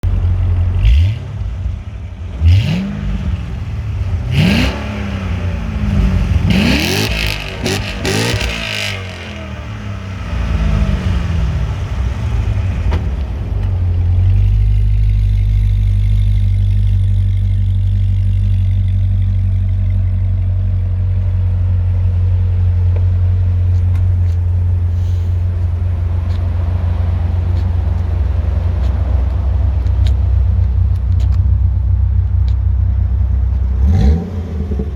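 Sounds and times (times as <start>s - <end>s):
sports car engine revving and idling: 0.0s - 34.9s.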